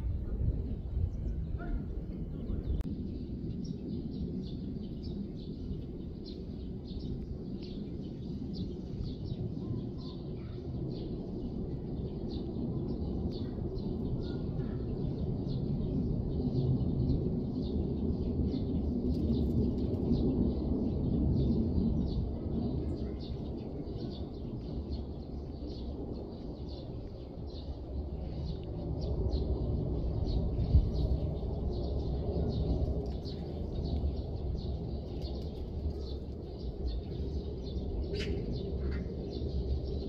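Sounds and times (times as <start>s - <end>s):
low outdoor rumble: 0.0s - 40.0s
small birds chirping: 0.1s - 40.0s.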